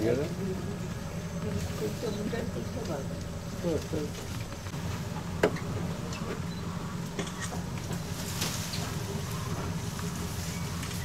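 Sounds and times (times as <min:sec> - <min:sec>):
boat motor idling: 0:00.0 - 0:11.0.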